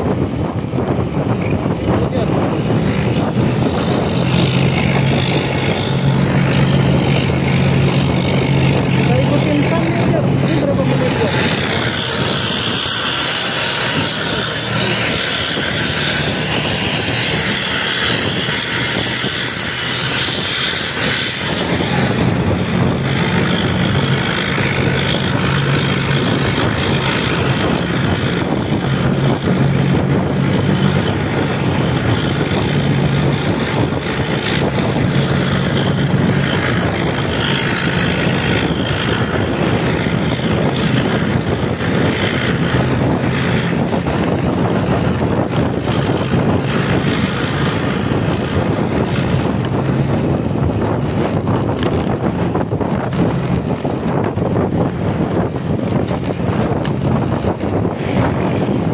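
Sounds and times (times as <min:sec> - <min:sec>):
bus diesel engine growl: 0:00.0 - 0:58.9
road and wind noise: 0:00.0 - 0:58.9.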